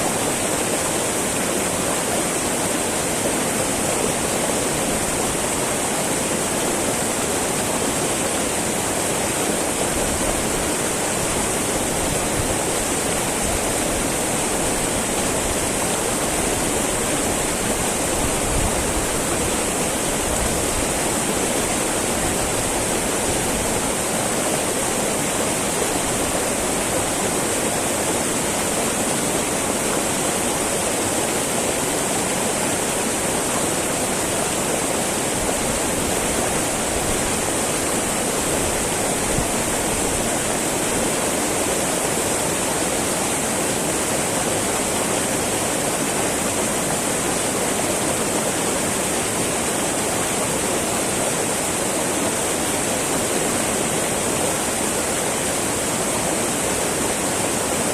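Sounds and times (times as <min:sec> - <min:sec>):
river babbling over rocks: 0:00.0 - 0:57.9.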